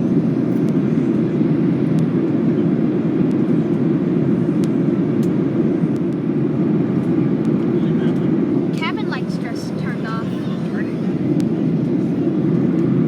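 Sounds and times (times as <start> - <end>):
airflow rushing in cabin: 0.0 - 13.0
jet engine noise: 0.0 - 13.0.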